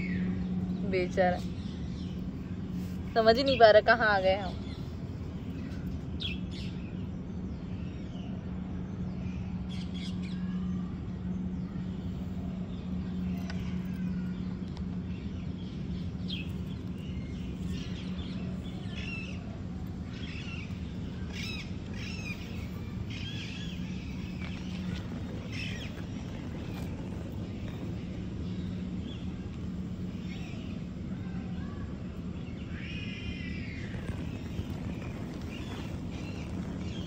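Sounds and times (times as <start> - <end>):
birds chirping: 0.0 - 37.0
steady low hum: 0.0 - 37.0.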